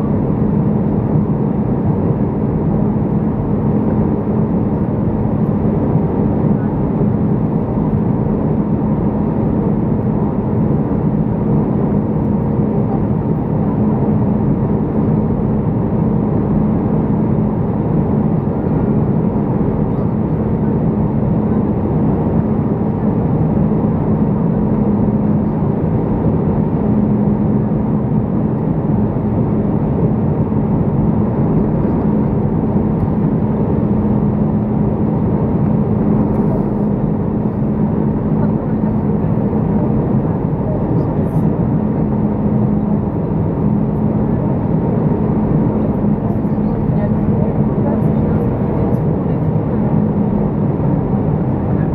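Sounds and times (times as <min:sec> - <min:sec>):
aircraft engine and airflow rush: 0:00.0 - 0:51.9
steady low hum: 0:00.0 - 0:51.9.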